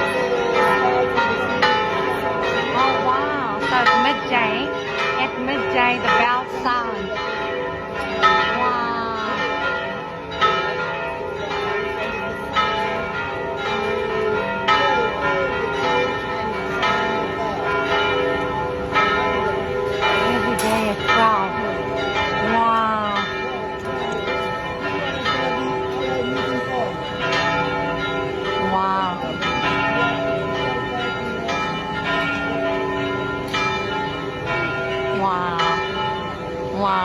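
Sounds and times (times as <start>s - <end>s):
church bells ringing: 0.0s - 37.0s.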